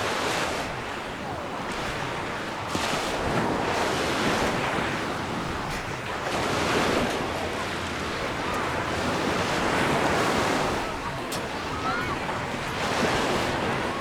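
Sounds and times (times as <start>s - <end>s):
sea waves breaking: 0.0s - 14.0s
wind on microphone: 0.0s - 14.0s.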